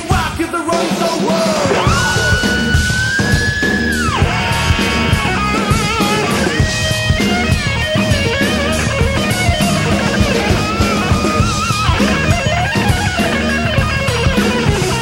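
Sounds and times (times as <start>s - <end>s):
drum kit: 0.0s - 15.0s
rock guitar lead: 0.0s - 15.0s
bass guitar: 1.2s - 15.0s.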